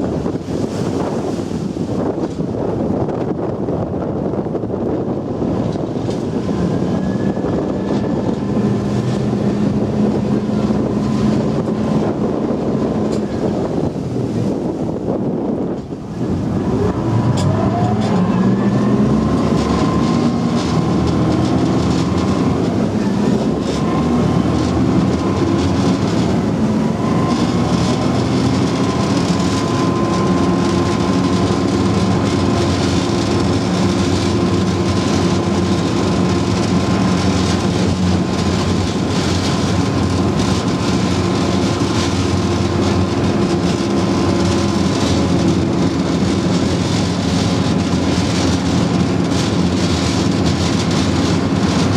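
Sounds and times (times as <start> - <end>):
vehicle engine droning under load: 5.1 - 51.9.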